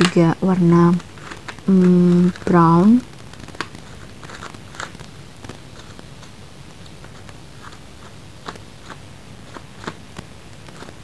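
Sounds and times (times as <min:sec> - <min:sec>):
faint clicks and ticks: 0:00.0 - 0:11.0
low steady hum: 0:00.0 - 0:11.0.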